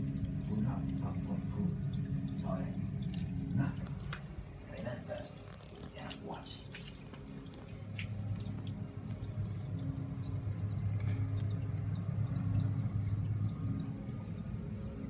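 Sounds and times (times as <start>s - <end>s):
filter humming: 0.0s - 15.0s
water trickling and dripping: 0.0s - 15.0s.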